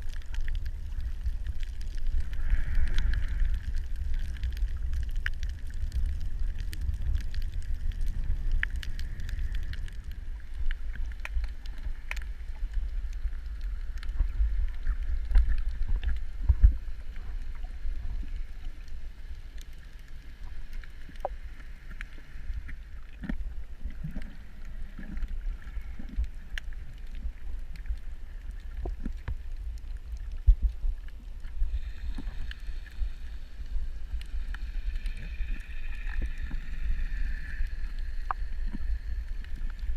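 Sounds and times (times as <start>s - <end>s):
faint clicks and crackles: 0.0s - 39.9s
low underwater rumble: 0.0s - 39.9s.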